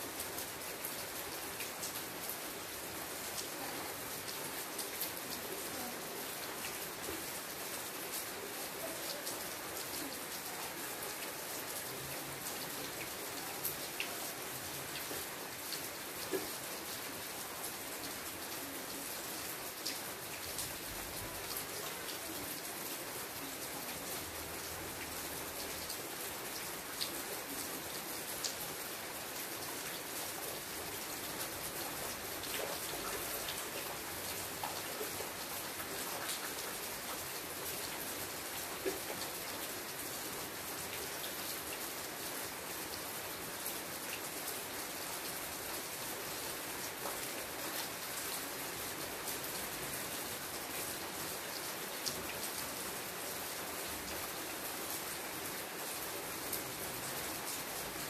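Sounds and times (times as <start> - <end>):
rain on leaves: 0.0 - 58.0.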